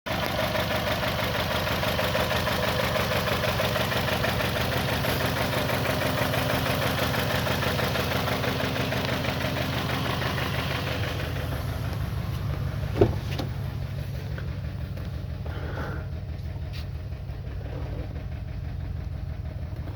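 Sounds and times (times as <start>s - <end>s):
car engine misfiring: 0.1s - 19.9s.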